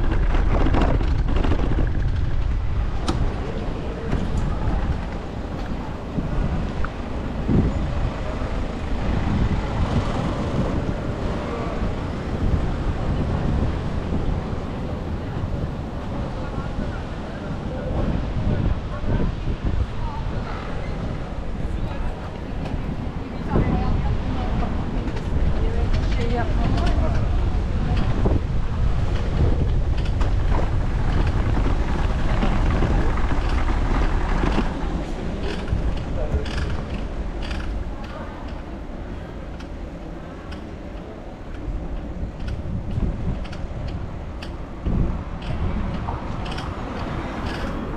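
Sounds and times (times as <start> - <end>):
bicycle road noise: 0.0 - 47.9
city traffic: 0.0 - 47.9
wind rush: 0.0 - 47.9.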